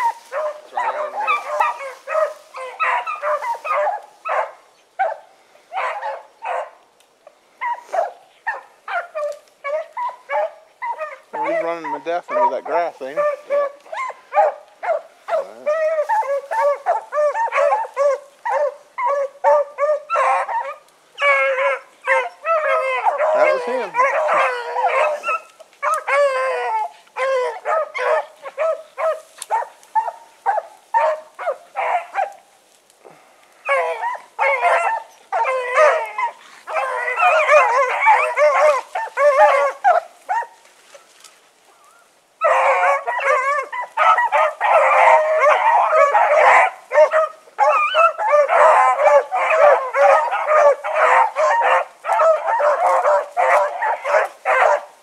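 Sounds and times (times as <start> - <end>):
dogs baying: 0.0 - 6.8, 7.6 - 32.4, 33.1 - 40.6, 42.4 - 55.0.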